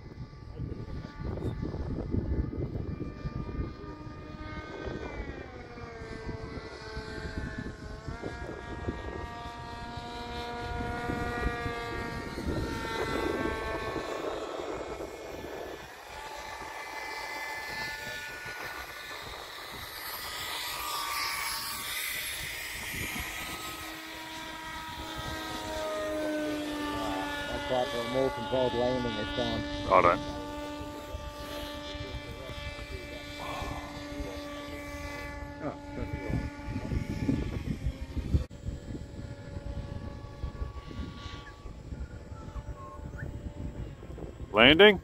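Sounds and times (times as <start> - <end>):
low rumbling noise: 0.0 - 45.0
model plane motor whining: 0.0 - 45.0.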